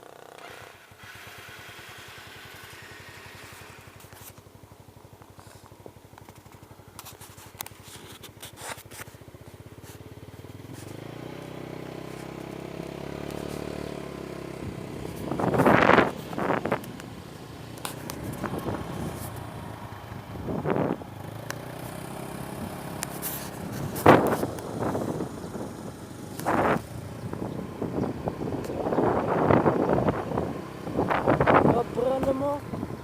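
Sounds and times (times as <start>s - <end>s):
small motorcycle engine revving: 0.0s - 33.0s.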